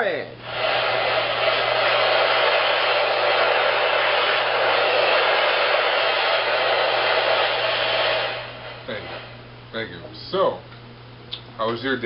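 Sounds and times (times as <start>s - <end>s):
electric fan whooshing: 0.0s - 12.0s.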